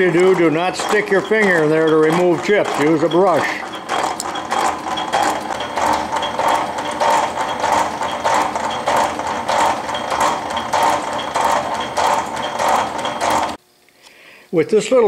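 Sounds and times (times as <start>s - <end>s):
metal shaper clattering: 0.0s - 13.6s.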